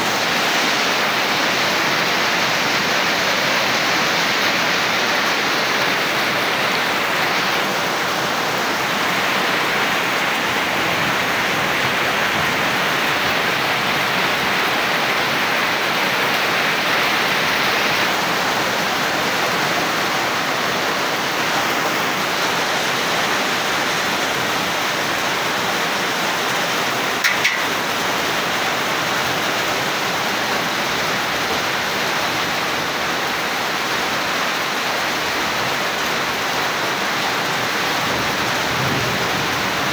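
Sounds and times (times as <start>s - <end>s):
heavy rain falling: 0.0s - 39.9s
water streaming off roof: 0.0s - 39.9s.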